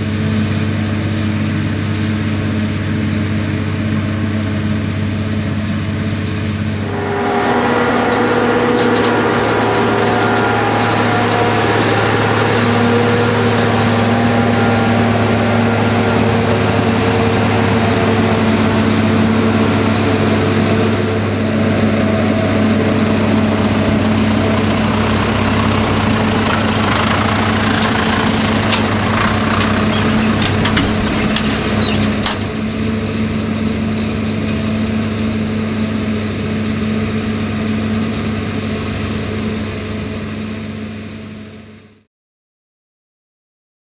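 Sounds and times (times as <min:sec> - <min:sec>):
forage harvester engine drone: 0:00.0 - 0:42.1.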